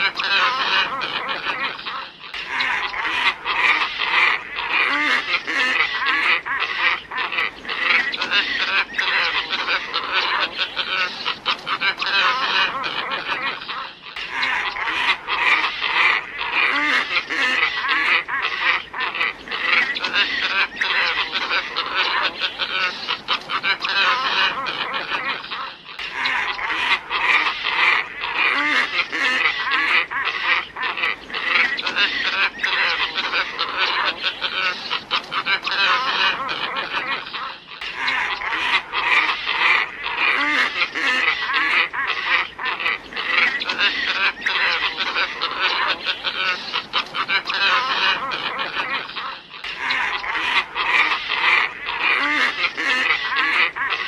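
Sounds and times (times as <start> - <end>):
ibis flock calling: 0.0 - 54.0.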